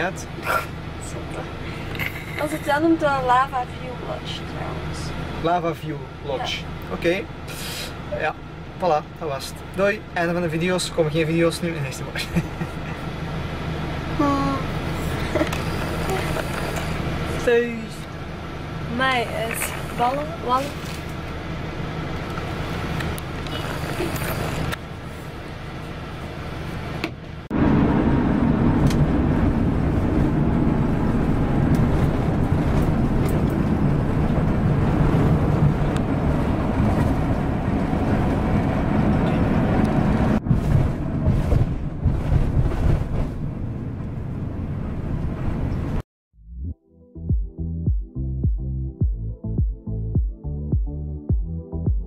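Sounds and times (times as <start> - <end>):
vehicle engine and tyre rumble: 0.0 - 46.0.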